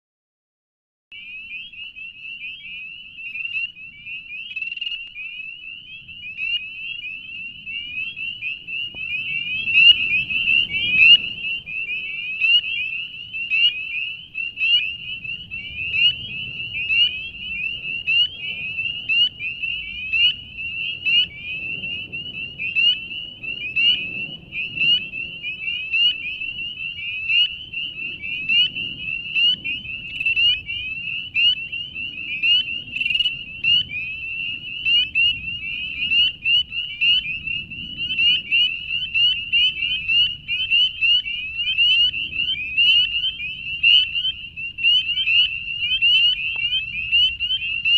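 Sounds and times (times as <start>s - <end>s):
spring peepers chorus: 1.1s - 47.9s.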